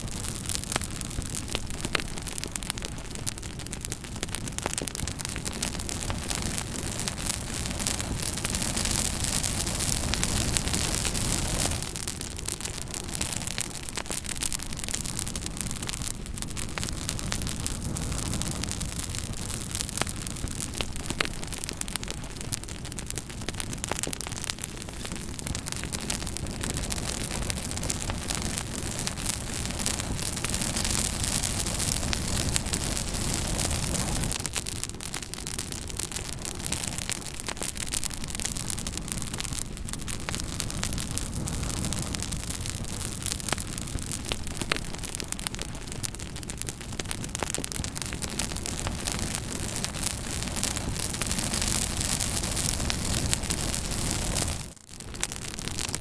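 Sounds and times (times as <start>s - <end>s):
fire crackling: 0.0s - 56.0s
sharp fire pops: 0.0s - 56.0s.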